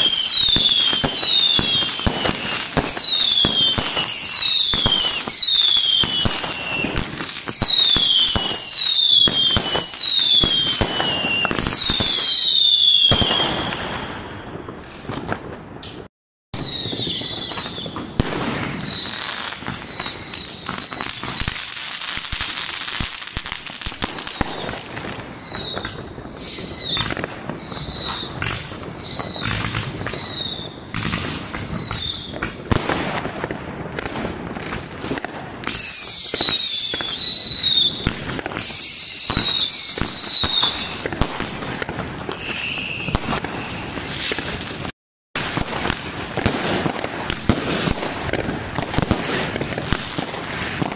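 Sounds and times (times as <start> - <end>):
fireworks crackling and popping: 0.0 - 50.9
fireworks whistles: 0.0 - 50.9.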